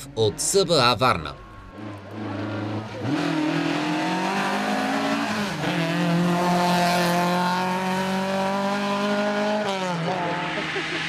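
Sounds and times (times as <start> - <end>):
rally car engine revving: 1.7 - 11.0.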